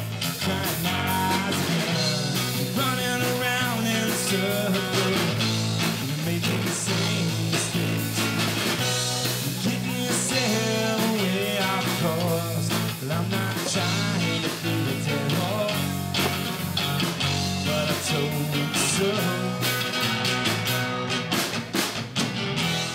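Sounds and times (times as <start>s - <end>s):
drum kit: 0.0s - 22.9s
electric bass: 0.0s - 22.9s
electric guitar: 0.0s - 22.9s.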